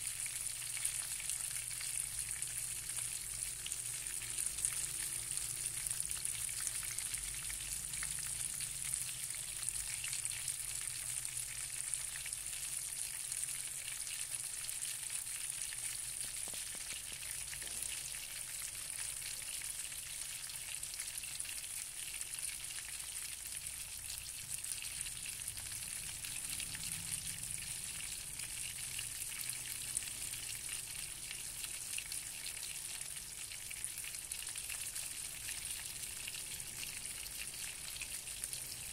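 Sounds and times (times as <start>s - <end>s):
oil sizzling with fish frying: 0.0s - 38.9s.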